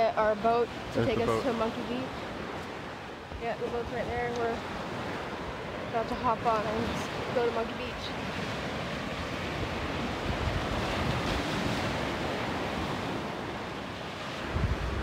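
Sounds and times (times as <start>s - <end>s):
small waves washing on beach: 0.0s - 15.0s
wind on microphone: 0.0s - 15.0s.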